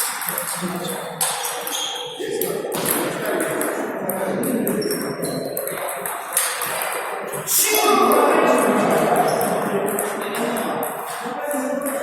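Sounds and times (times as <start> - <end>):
murmur of voices: 0.0 - 12.0
ping-pong balls clicking: 0.0 - 12.0.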